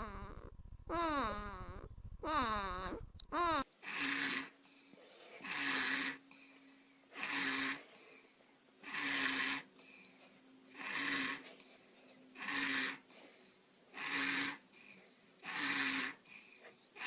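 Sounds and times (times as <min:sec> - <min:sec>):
baby snoring: 0:00.0 - 0:08.2, 0:08.8 - 0:11.8, 0:12.4 - 0:17.0.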